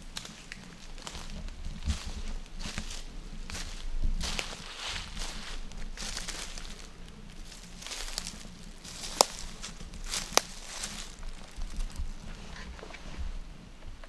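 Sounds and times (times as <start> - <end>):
footsteps crunching dry leaves: 0.0 - 12.6.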